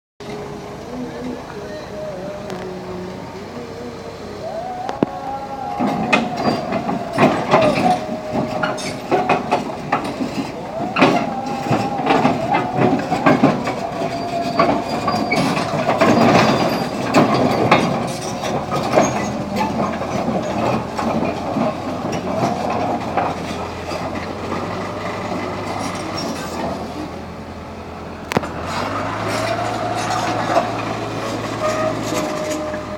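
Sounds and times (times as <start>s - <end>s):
bulldozer diesel engine: 0.2s - 32.9s
steel tracks clanking on metal: 0.2s - 32.9s
wavering squeals: 0.2s - 32.9s.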